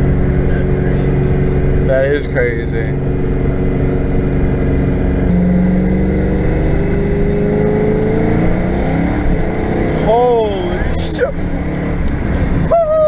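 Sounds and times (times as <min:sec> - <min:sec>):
car engine accelerating hard: 0:00.0 - 0:12.9.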